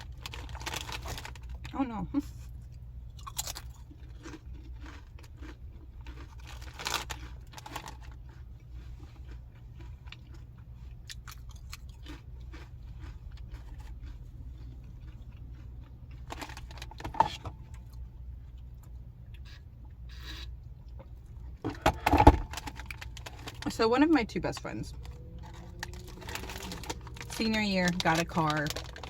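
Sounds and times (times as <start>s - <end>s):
chewing crunchy chips: 0.0s - 17.0s, 17.6s - 21.6s, 22.4s - 29.0s.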